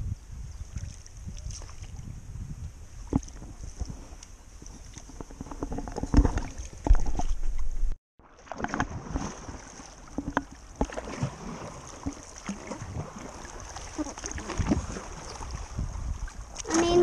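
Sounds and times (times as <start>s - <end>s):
paddles splashing in water: 0.7s - 2.0s, 3.0s - 7.4s, 8.2s - 17.0s.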